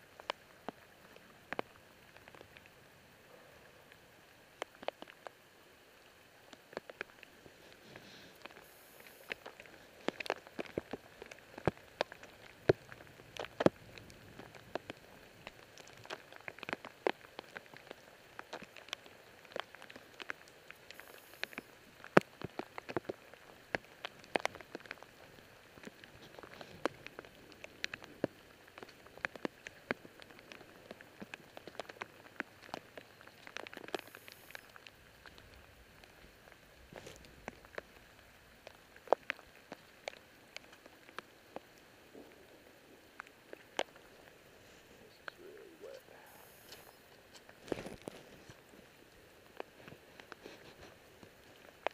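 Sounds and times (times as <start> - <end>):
raindrop ticks: 0.0 - 2.8, 3.9 - 51.9
faint rain hiss: 0.0 - 51.9.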